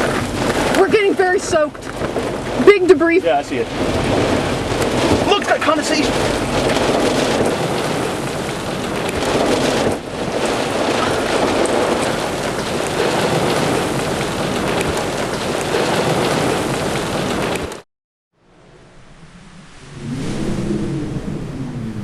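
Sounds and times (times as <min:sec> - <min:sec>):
heavy rain pouring: 0:00.0 - 0:17.8.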